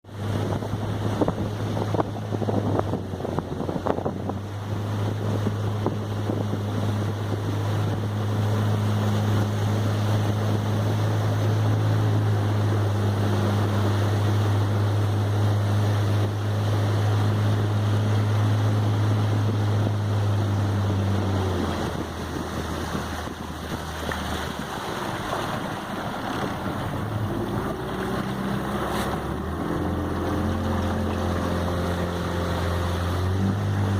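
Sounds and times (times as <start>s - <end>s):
motorboat engine running: 0.0s - 33.9s
water rushing: 0.0s - 33.9s
wind buffeting microphone: 0.1s - 33.9s.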